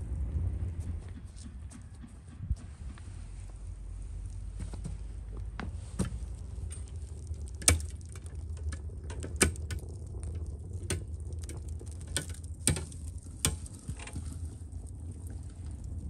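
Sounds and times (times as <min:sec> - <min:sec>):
steady low rumble: 0:00.0 - 0:16.0
wood fire crackling: 0:00.0 - 0:16.0.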